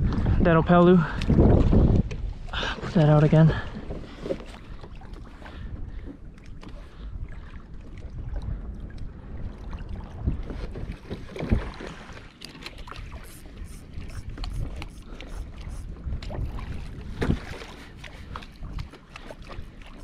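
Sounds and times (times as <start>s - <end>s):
water lapping against plastic hull: 0.0s - 20.0s.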